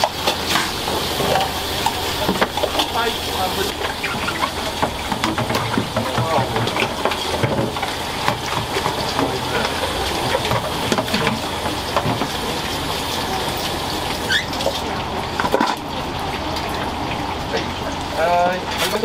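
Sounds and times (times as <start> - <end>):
water running: 0.0 - 19.0.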